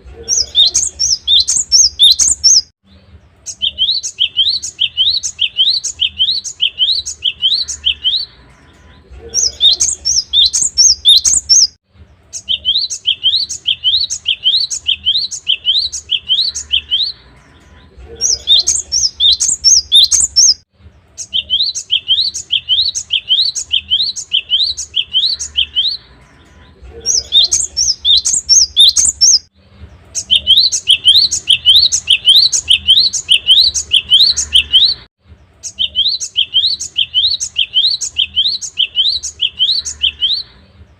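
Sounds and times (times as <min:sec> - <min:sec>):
bird singing high chirps: 0:00.2 - 0:40.9.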